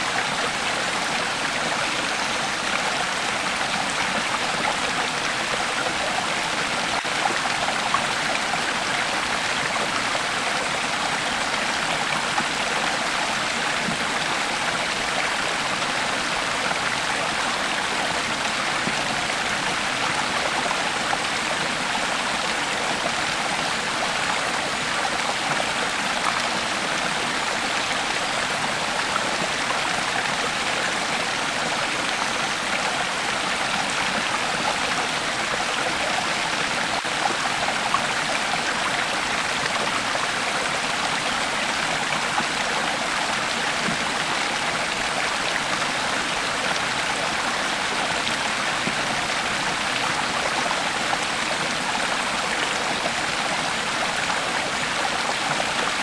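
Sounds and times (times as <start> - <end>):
creek water over rocks: 0.0 - 56.0.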